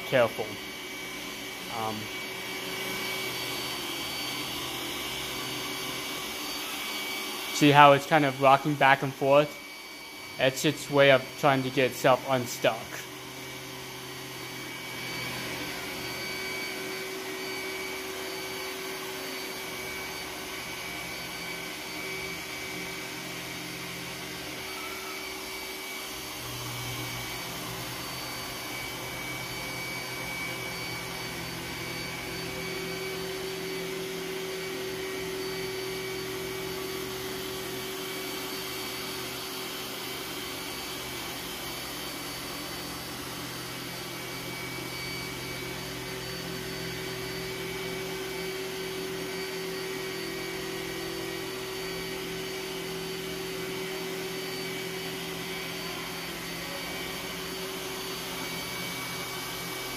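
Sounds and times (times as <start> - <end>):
robot vacuum droning: 0.0 - 59.9.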